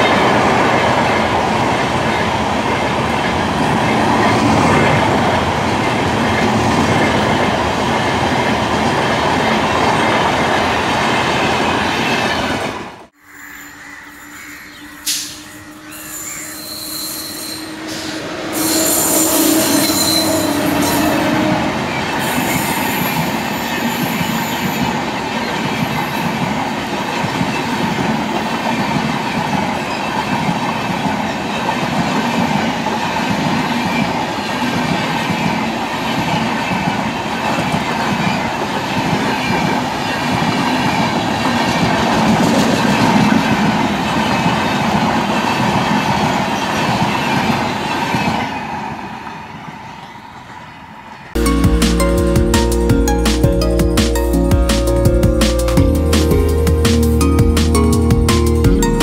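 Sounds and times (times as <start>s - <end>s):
train coaches passing: 0.0s - 59.0s.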